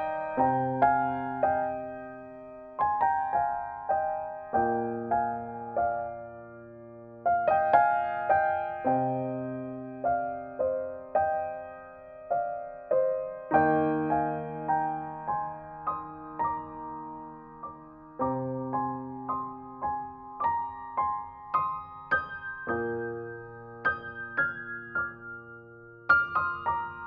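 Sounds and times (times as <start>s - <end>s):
gentle piano piece: 0.0s - 27.0s.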